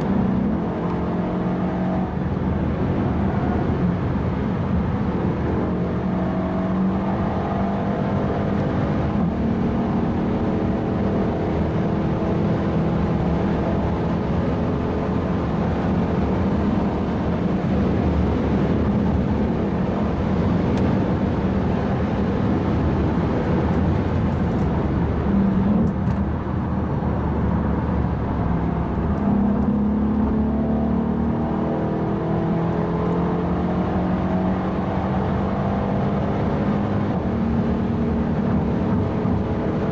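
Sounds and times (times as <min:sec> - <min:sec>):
car engine from inside cabin: 0:00.0 - 0:39.9
road and tyre noise: 0:00.0 - 0:39.9.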